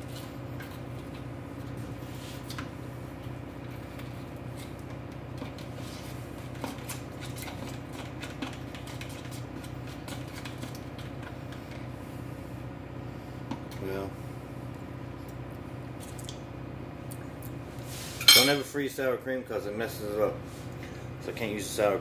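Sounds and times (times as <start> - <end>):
low appliance hum: 0.0 - 22.0.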